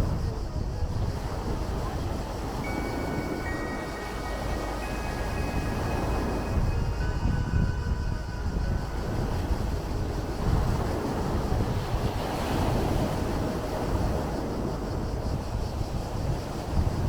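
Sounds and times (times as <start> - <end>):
sea waves breaking: 0.0 - 17.0
wind rumbling on microphone: 0.0 - 17.0.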